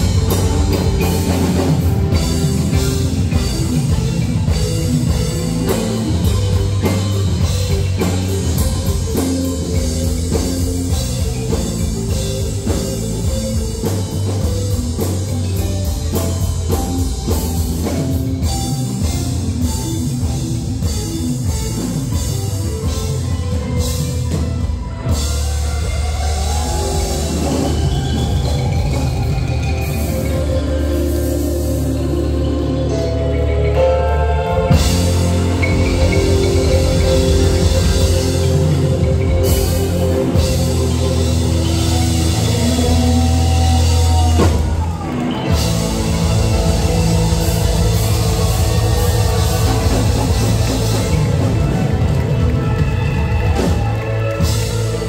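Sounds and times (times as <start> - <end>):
rock beat on drum kit: 0.0 - 32.3, 34.4 - 55.0
guitar: 0.0 - 55.0
wooden xylophone played with mallets: 0.0 - 55.0.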